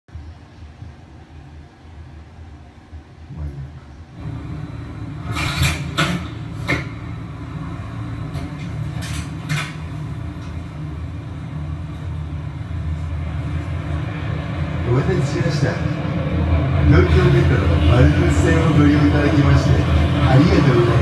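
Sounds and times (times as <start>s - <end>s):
train rumble over speakers: 0.1s - 21.0s.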